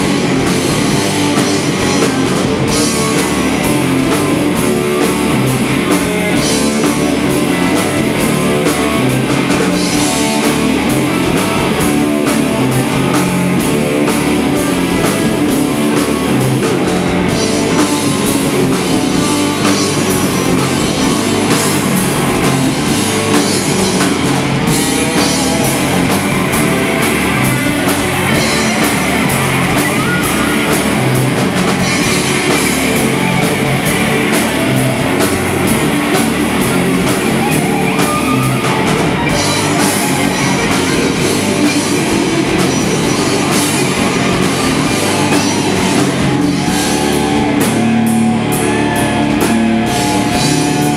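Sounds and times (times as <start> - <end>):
bass guitar: 0.0 - 50.9
drum kit: 0.0 - 50.9
electric guitars: 0.0 - 50.9.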